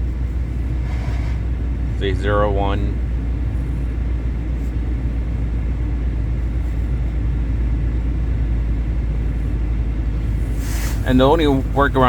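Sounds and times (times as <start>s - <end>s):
car cabin engine rumble: 0.0s - 12.0s.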